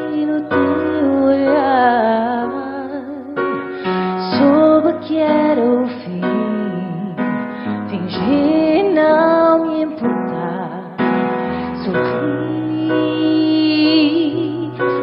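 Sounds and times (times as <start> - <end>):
keyboard chords: 0.0 - 15.0
woman singing: 0.0 - 15.0.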